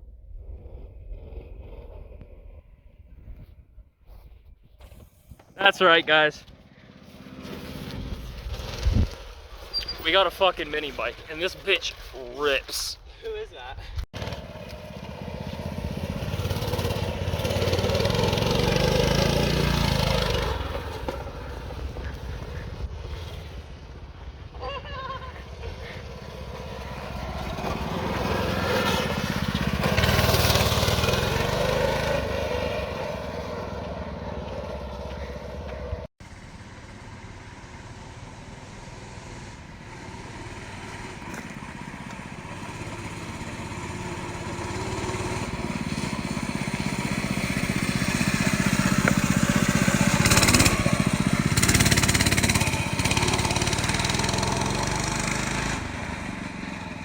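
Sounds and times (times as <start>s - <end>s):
minibike engine revving: 6.7s - 12.8s, 14.1s - 57.0s.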